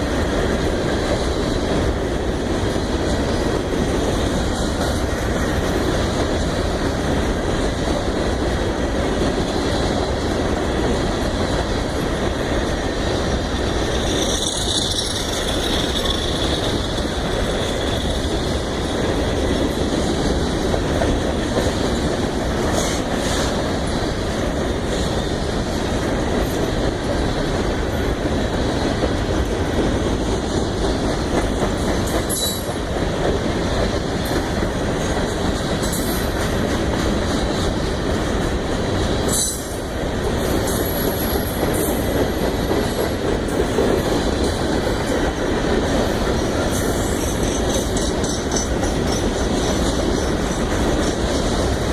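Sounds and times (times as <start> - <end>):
freight cars clickety-clack: 0.0 - 51.9.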